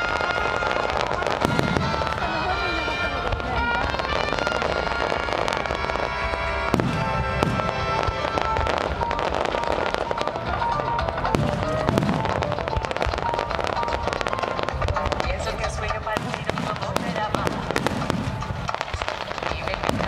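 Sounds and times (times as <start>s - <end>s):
fireworks bangs: 0.0s - 20.0s
fireworks bursting and crackling: 0.0s - 20.0s
music playing: 0.0s - 20.0s.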